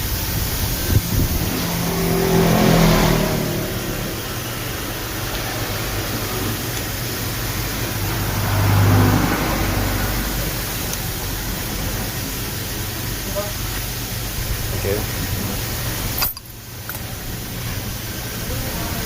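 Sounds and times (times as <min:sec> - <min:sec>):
motorcycle engine revving and idling: 0:00.0 - 0:19.0.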